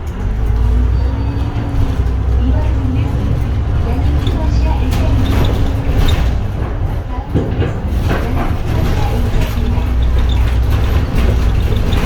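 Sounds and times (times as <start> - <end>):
bus engine drone: 0.0 - 12.0
road noise: 0.0 - 12.0.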